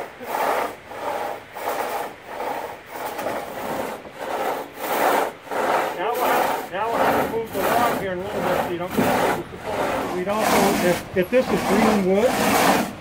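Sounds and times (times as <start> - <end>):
pit saw cutting wood: 0.0 - 13.0.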